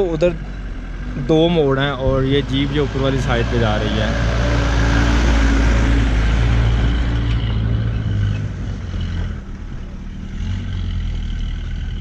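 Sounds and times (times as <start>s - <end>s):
car engine droning uphill: 0.0s - 12.0s.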